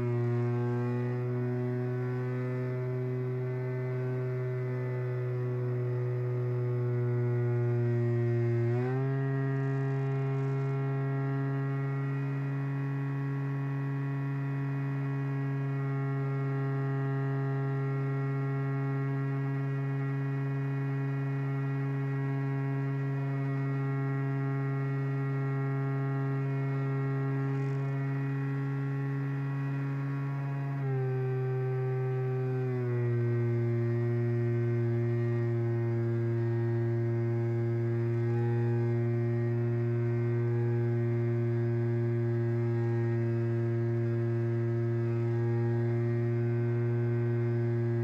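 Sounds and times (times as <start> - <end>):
electric motor and propeller whine: 0.0 - 48.0.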